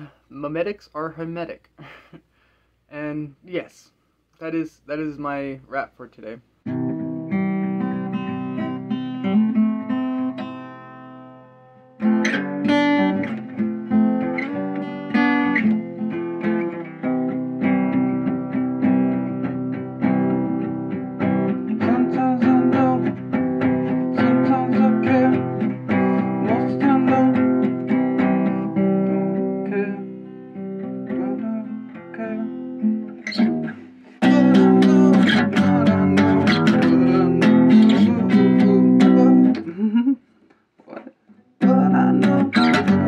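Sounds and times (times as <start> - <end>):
acoustic guitar strumming: 5.8 - 39.8, 41.4 - 43.0.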